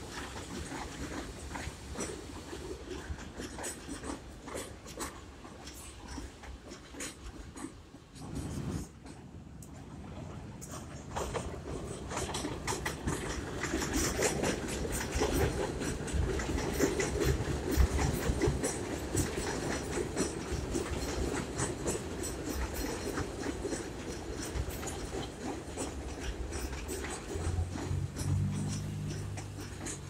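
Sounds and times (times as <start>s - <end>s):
subway train rumble: 0.0s - 30.0s
wheels clattering on rails: 0.0s - 30.0s.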